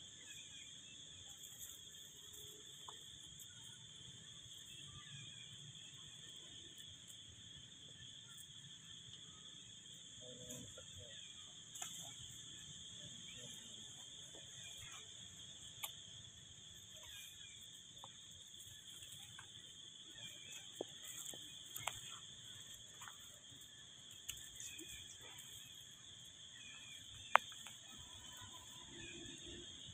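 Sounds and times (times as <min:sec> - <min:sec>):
insect chorus buzzing: 0:00.0 - 0:29.9.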